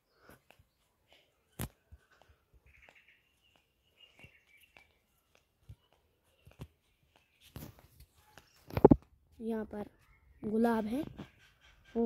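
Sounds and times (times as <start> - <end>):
faint bird chirping: 0.0 - 12.0
faint clicks and taps: 0.3 - 10.1.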